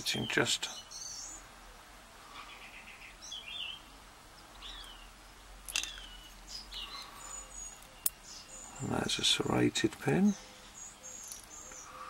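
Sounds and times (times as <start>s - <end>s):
faint bird chirps: 0.1s - 12.0s.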